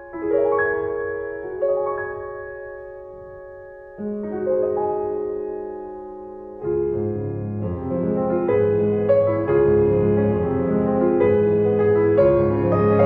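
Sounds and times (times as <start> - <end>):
slow soft piano music: 0.0 - 13.0.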